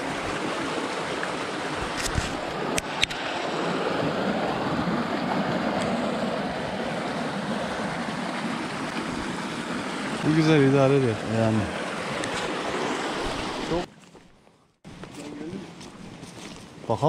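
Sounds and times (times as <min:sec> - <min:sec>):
water rushing over rocks: 0:00.0 - 0:13.9.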